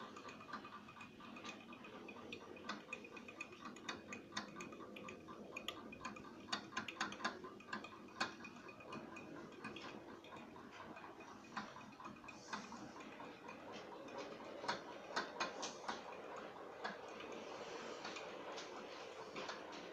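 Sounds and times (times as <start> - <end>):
model train wheels clicking: 0.0 - 19.9.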